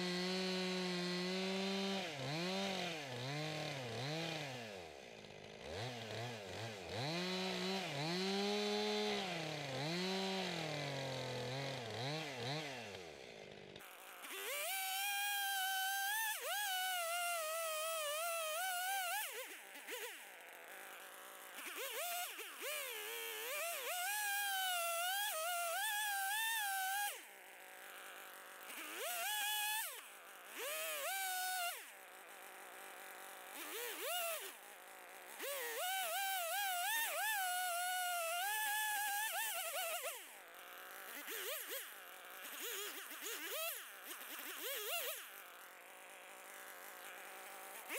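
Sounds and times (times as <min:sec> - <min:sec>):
chainsaw cutting into log: 0:00.0 - 0:47.9.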